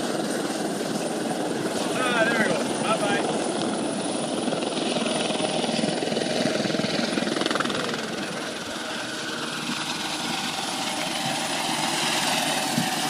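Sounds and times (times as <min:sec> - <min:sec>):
helicopter rotor blades chopping: 0:00.0 - 0:13.0.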